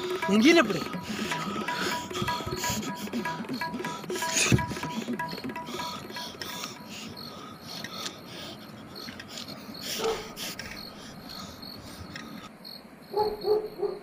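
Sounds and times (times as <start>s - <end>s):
background hiss: 0.0s - 14.0s
crickets chirping: 0.0s - 14.0s.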